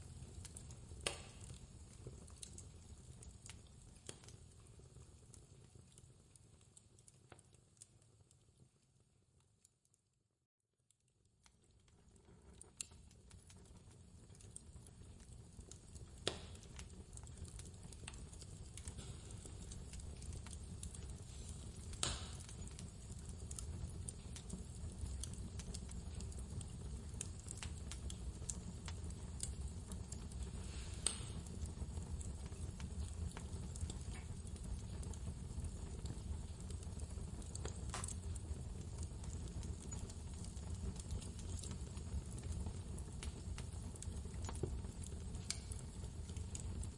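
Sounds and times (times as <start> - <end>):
wood fire crackling and popping: 0.0 - 10.0, 10.9 - 46.9.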